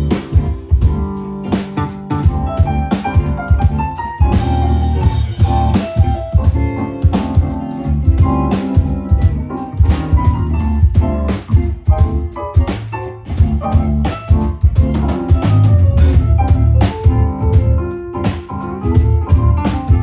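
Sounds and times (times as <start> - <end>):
band playing: 0.0 - 20.0
drum kit hits: 0.0 - 20.0.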